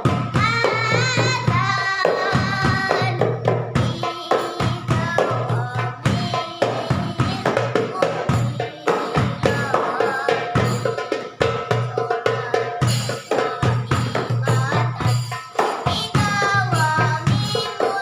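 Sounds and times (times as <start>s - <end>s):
frame drums beating quick rhythm: 0.0s - 18.0s.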